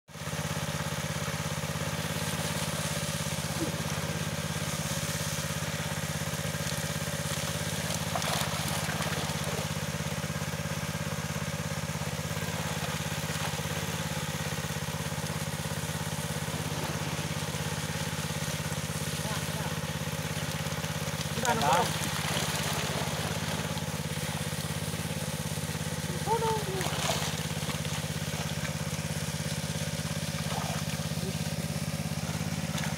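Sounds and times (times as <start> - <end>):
small engine idling: 0.1 - 32.9
water splash: 1.8 - 32.9.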